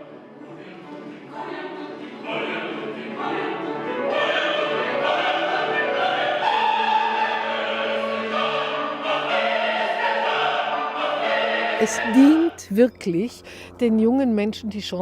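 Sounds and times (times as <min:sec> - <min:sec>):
choir singing opera: 0:00.0 - 0:12.6.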